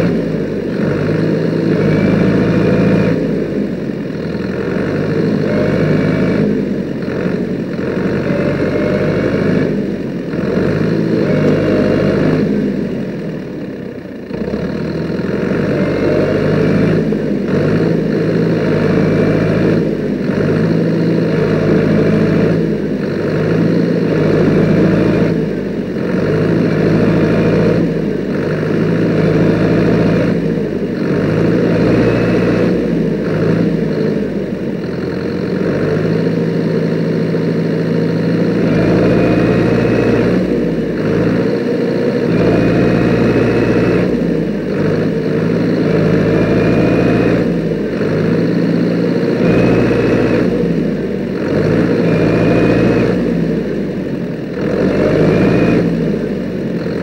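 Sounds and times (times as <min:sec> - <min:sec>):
tractor engine revving under load: 0:00.0 - 0:57.0.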